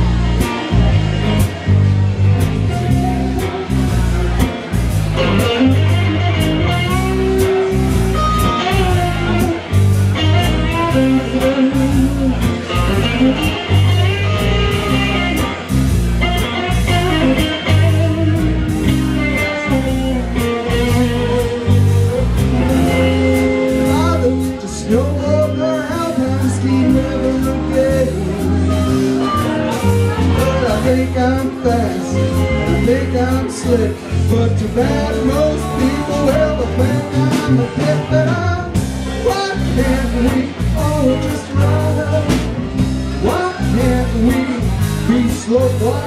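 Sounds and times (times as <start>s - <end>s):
bass line: 0.0s - 46.0s
drum beats: 0.0s - 46.0s
lead guitar bending notes: 0.0s - 46.0s.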